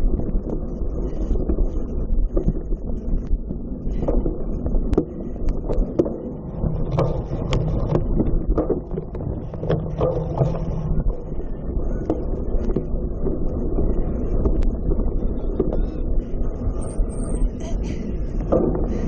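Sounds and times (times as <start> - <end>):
bike rumbling over rough ground: 0.0 - 19.0
wind on microphone: 0.0 - 19.0.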